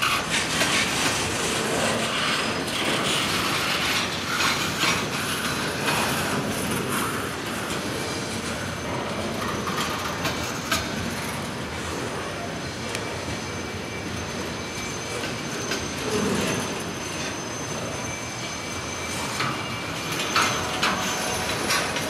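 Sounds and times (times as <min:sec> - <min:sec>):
railroad cars rolling: 0:00.0 - 0:22.0
wheels clanking on rails: 0:00.0 - 0:22.0.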